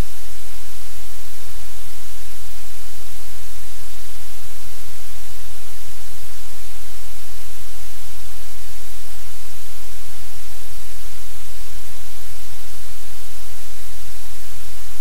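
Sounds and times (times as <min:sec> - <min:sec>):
low electrical hum: 0:00.0 - 0:15.0
static hiss: 0:00.0 - 0:15.0.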